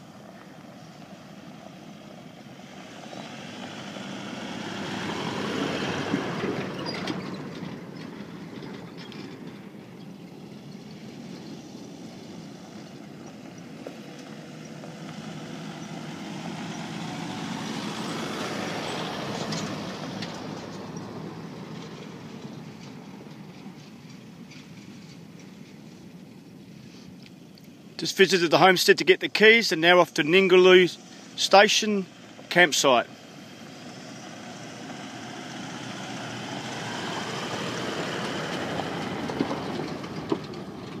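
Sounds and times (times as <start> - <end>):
vehicle driving past on sand: 0.0 - 25.6, 33.1 - 41.0.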